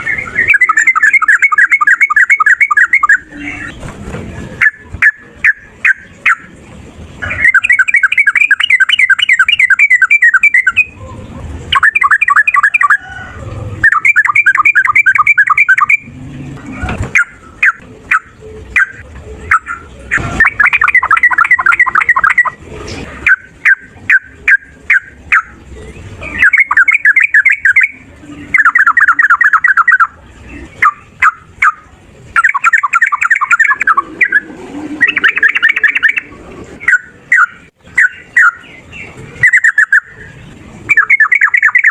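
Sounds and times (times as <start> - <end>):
bird chattering song: 0.0 - 3.9, 4.6 - 13.2, 13.8 - 16.2, 17.1 - 22.6, 23.2 - 41.9
sharp bird calls: 0.0 - 3.9, 4.6 - 6.6, 7.2 - 22.6, 23.2 - 41.9.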